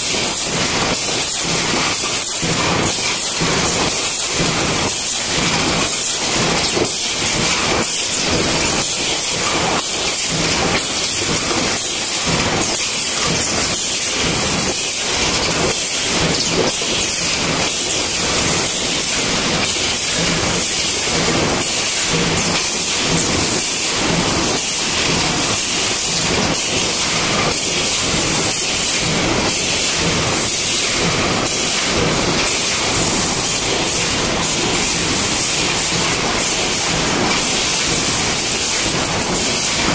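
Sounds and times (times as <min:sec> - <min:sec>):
machinery clattering: 0:00.0 - 0:39.9.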